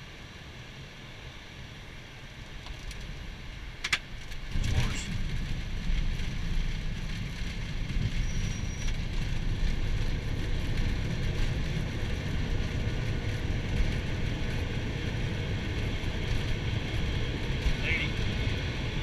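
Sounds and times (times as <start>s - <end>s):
airliner engines and wheels rumbling: 0.0s - 19.0s.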